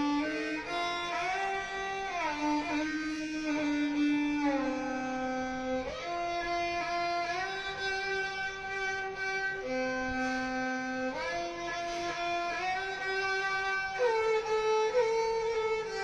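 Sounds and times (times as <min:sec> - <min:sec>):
slow sliding melody: 0:00.0 - 0:16.0.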